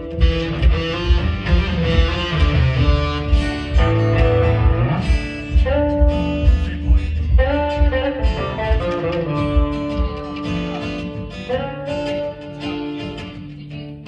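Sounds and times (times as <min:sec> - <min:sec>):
live dance band playing: 0:00.0 - 0:11.4
steady low beat: 0:00.0 - 0:13.4.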